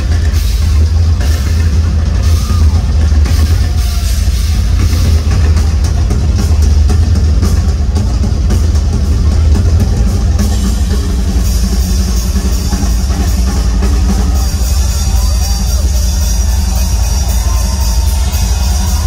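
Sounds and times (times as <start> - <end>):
rock drum solo: 0.0 - 19.0.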